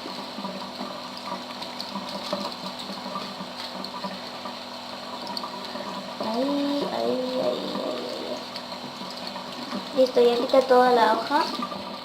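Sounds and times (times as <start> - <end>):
tap water running over paper: 0.0 - 12.0.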